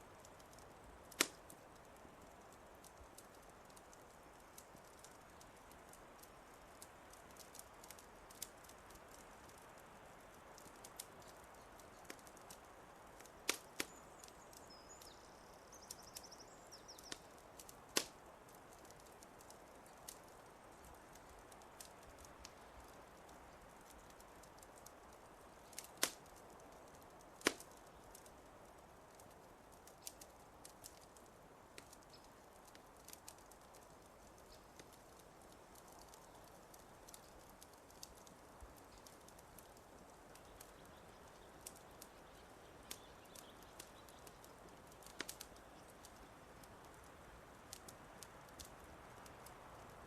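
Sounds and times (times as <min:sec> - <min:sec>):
fireplace fire crackling: 0:00.0 - 0:50.0.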